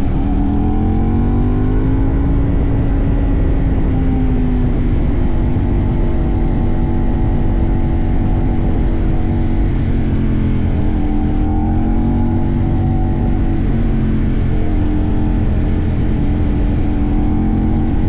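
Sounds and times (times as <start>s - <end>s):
motorcycle engine running: 0.0s - 18.0s
wind and road rumble: 0.0s - 18.0s.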